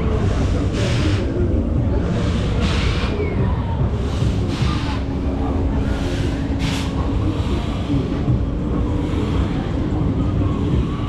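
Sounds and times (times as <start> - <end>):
low rumble: 0.0 - 11.0
mechanical hum: 0.0 - 11.0.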